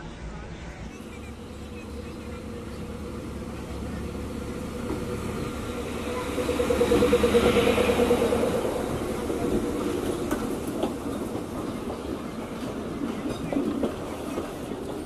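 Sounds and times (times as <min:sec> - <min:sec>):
train coaches rolling past: 0:00.0 - 0:15.0
train power car engine pulsing: 0:00.9 - 0:15.0.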